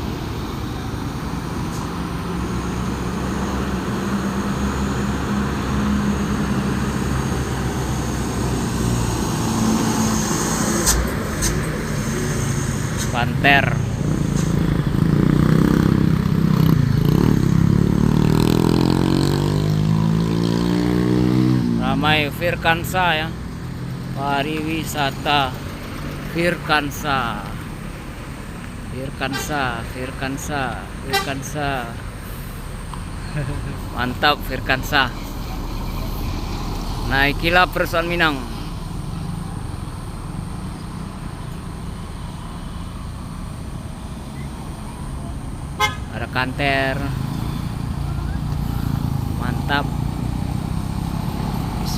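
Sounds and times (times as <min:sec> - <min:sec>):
tyre and road noise: 0:00.0 - 0:51.9
vehicle engine climbing under load: 0:00.0 - 0:51.9.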